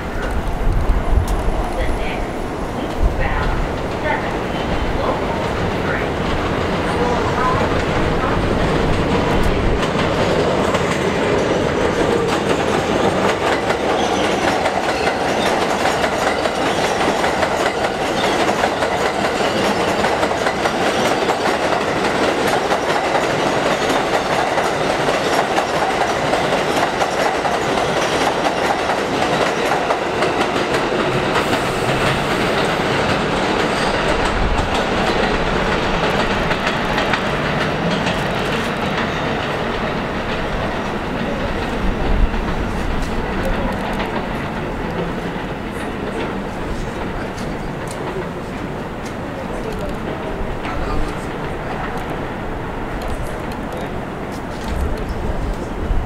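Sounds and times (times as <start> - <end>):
train rumbling on elevated track: 0.0 - 56.0.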